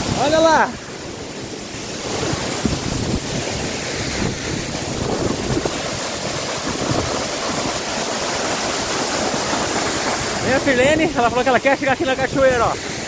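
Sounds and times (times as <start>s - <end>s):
waterfall crashing onto rocks: 0.0s - 13.0s.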